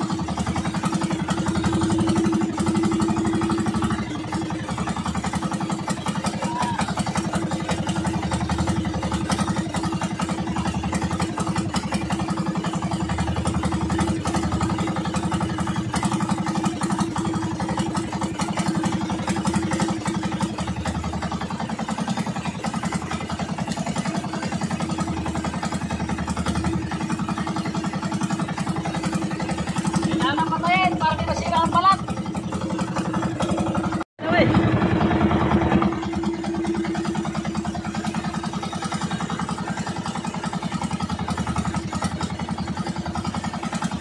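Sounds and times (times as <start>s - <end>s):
boat engine running: 0.0s - 44.0s.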